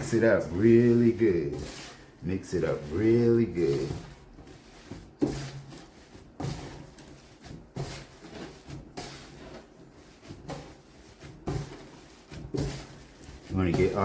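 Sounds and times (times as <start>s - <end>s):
hands kneading meat squishing: 0.0s - 14.0s.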